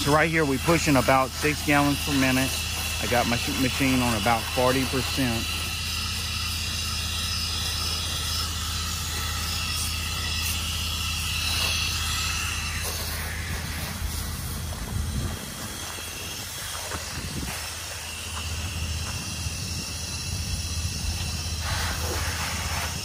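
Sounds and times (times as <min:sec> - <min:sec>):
machine humming: 0:00.0 - 0:23.0
pressure washer spray hiss: 0:00.0 - 0:23.0.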